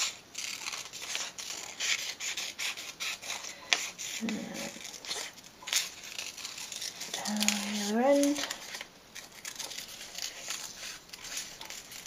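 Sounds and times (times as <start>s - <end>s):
paper rustling: 0.0s - 12.0s
scissors snipping paper: 0.0s - 12.0s.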